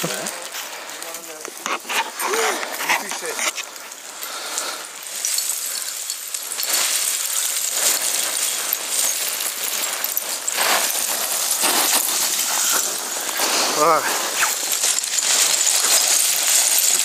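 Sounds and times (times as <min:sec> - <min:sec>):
footsteps crunching on gravel: 0:00.0 - 0:03.9, 0:06.6 - 0:17.0
small stones clinking: 0:00.0 - 0:17.0.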